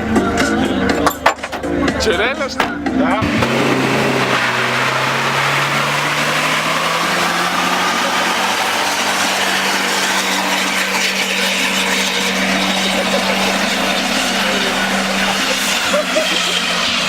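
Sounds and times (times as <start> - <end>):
car engine revving: 1.8 - 17.0.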